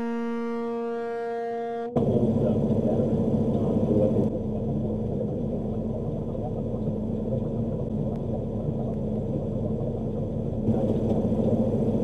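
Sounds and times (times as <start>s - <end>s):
vehicle engine idling: 1.9s - 12.0s.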